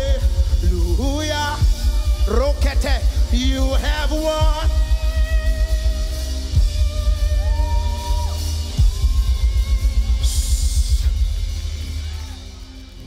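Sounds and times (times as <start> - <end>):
live worship band music: 0.0 - 13.0.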